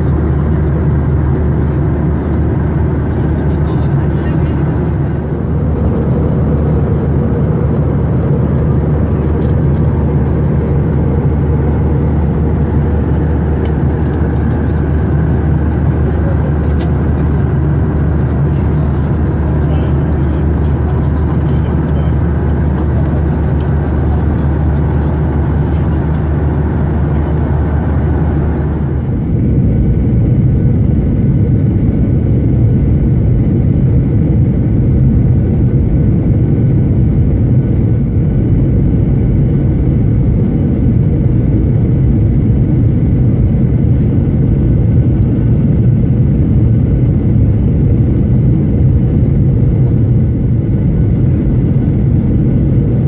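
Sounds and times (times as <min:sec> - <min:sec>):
aircraft cabin engine rush: 0:00.0 - 0:53.0.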